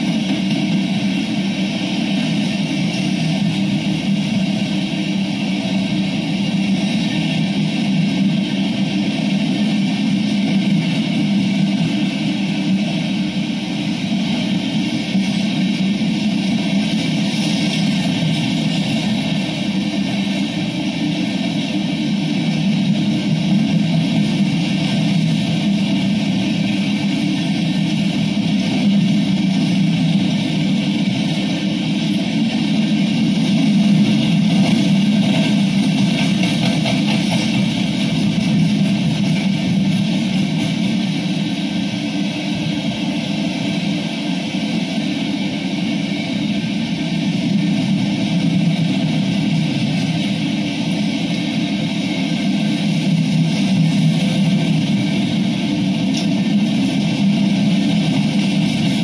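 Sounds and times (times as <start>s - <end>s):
freight train rolling past: 0.0s - 59.0s
steel wheels clattering on rail: 0.0s - 59.0s.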